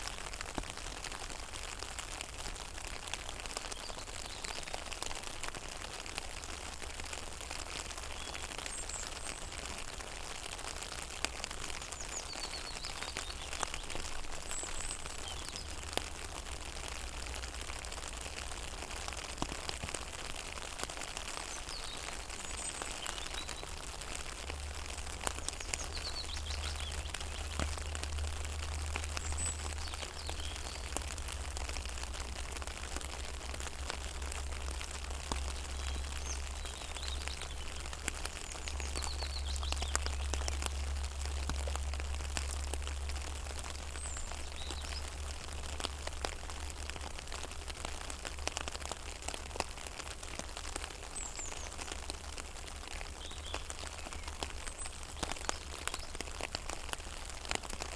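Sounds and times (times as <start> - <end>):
rain pattering on water: 0.0 - 57.9.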